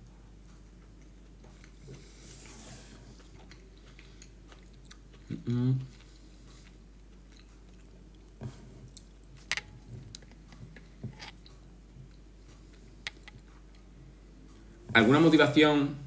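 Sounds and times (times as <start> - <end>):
closed-mouth chewing: 0.4 - 13.9.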